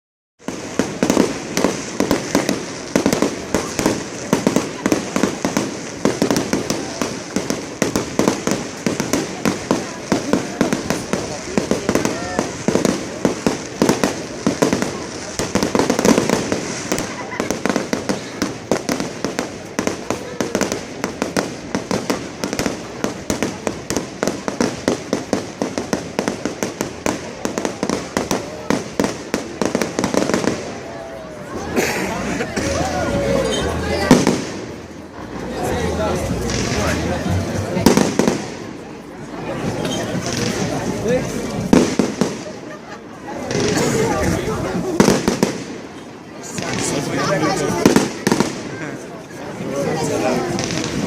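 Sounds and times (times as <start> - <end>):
fireworks banging and crackling: 0.4 - 51.0.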